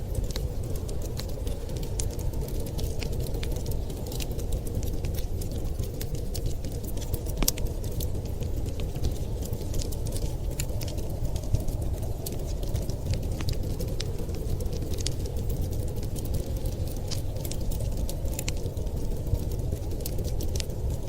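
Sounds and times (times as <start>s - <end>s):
steady low rumble: 0.0s - 21.0s
wood fire crackling: 0.0s - 21.0s.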